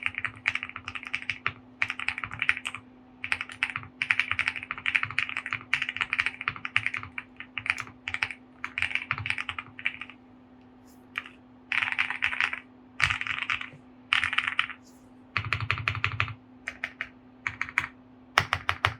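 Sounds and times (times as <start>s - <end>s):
mechanical keyboard typing: 0.0s - 10.2s, 11.2s - 14.8s, 15.4s - 18.9s
faint steady hum: 0.0s - 18.9s.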